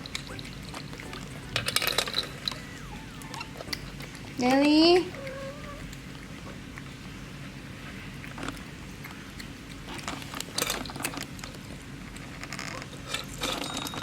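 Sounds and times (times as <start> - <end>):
cat chewing wet food: 0.0 - 4.4, 5.0 - 14.0
steady low hum: 0.0 - 13.1.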